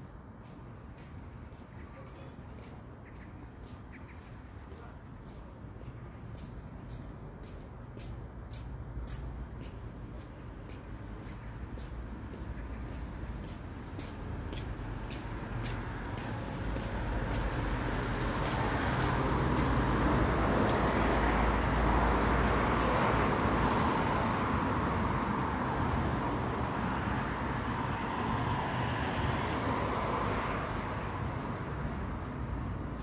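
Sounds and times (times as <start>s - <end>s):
passing vehicles rumbling: 0.0s - 33.0s.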